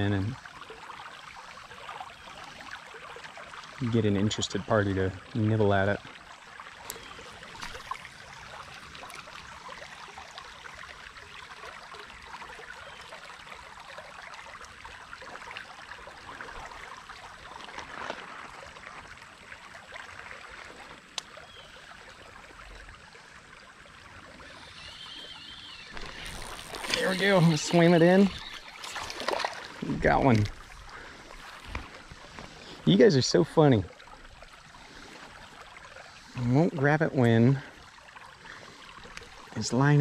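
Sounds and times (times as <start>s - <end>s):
running creek water: 0.0s - 40.0s.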